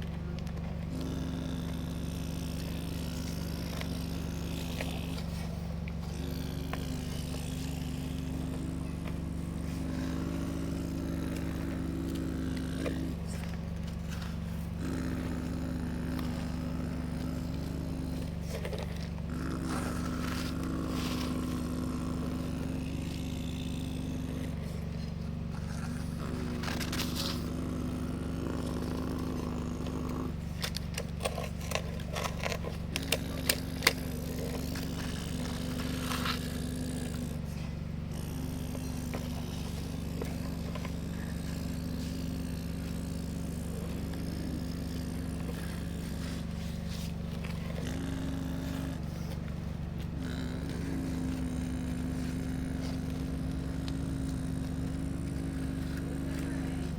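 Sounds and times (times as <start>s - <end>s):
excavator machine hum: 0.0s - 56.9s.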